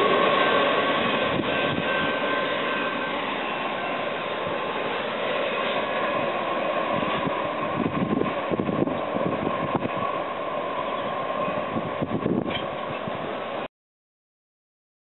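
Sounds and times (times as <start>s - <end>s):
freight train rumbling on rails: 0.0s - 13.7s.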